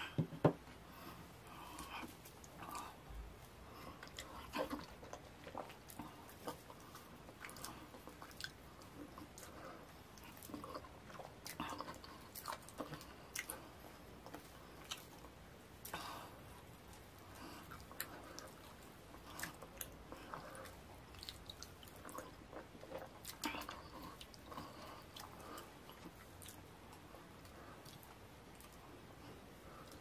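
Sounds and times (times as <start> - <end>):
wet chewing and mouth smacks: 3.8 - 16.2, 16.8 - 30.0.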